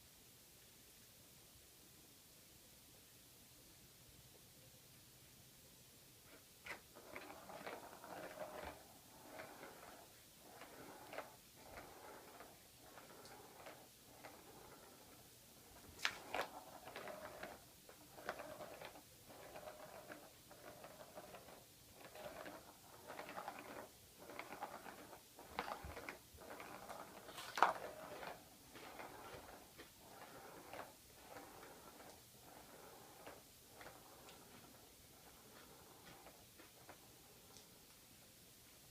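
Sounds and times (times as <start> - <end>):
balls rattling around toy track: 6.3 - 37.8.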